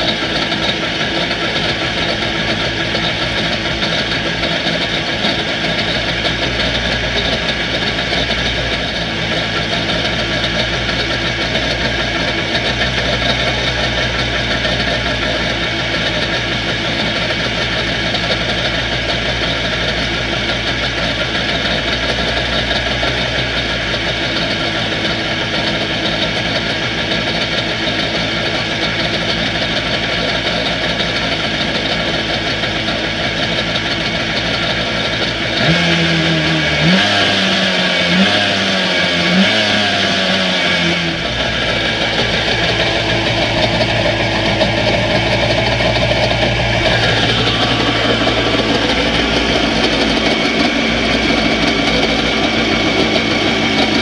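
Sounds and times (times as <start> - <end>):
engine revving: 0.0 - 54.0
jet ski engine idling: 0.0 - 54.0.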